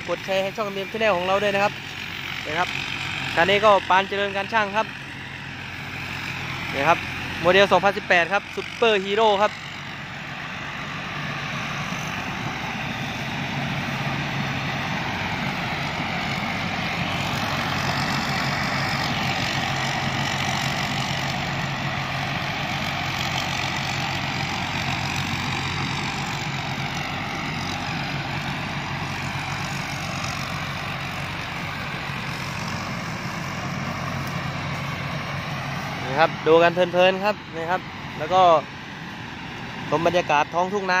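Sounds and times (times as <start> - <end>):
combine harvester engine humming: 0.0 - 41.0.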